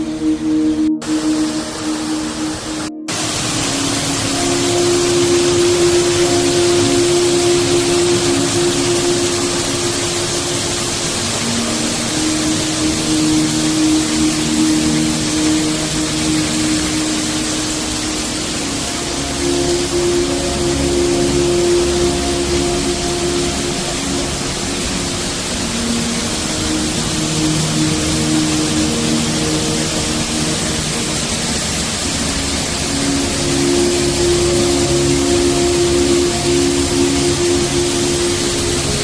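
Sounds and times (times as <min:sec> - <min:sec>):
slow music with held notes: 0:00.0 - 0:39.0
steady rushing noise: 0:00.0 - 0:39.0.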